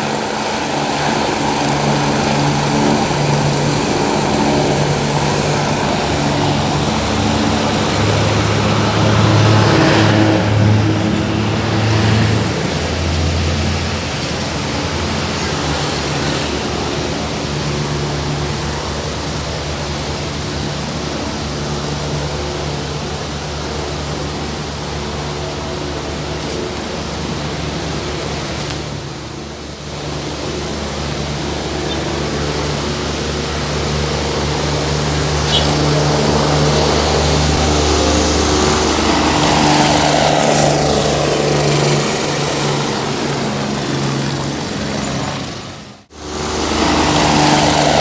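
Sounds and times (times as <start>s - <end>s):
highway traffic passing: 0.0s - 48.0s
low engine hum: 0.0s - 48.0s
vehicle passing by: 0.0s - 48.0s.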